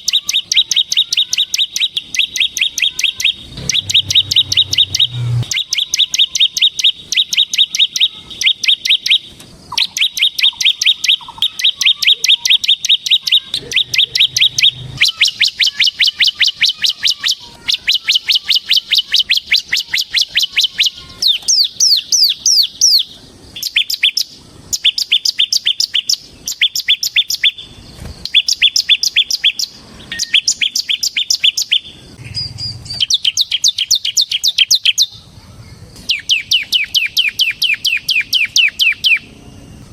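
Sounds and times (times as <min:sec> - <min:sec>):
prinia singing sharp high chirps: 0:00.0 - 0:39.9.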